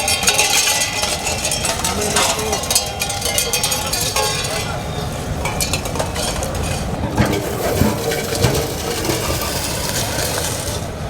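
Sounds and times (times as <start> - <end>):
metal crunching: 0.0 - 11.0
road roller din: 0.0 - 11.0.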